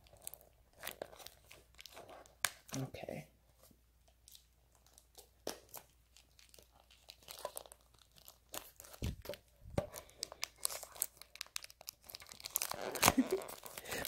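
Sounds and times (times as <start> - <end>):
plastic wrap crinkling and tearing: 0.0 - 2.9, 4.1 - 14.0.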